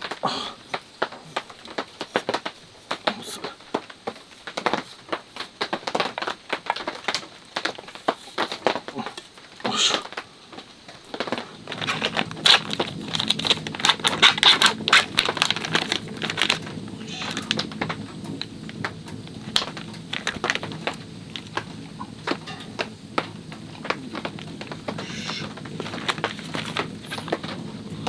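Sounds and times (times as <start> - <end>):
dense crinkling crackle: 0.0 - 28.0.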